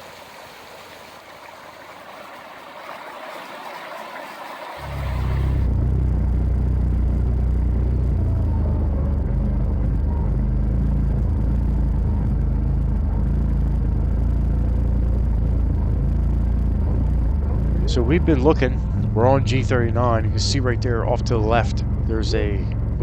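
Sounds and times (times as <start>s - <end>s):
utility vehicle engine droning: 0.0s - 23.0s.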